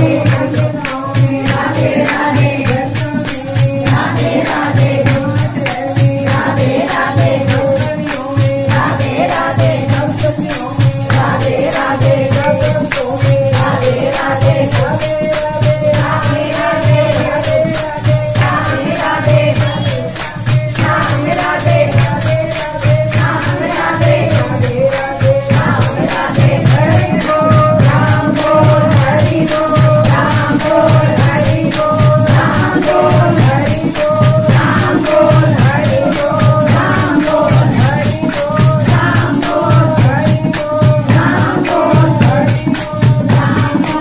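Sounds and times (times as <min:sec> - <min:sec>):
jingling tambourine-like percussion: 0:00.0 - 0:44.0
steady drum beat: 0:00.0 - 0:44.0
woman singing into a microphone: 0:00.0 - 0:44.0.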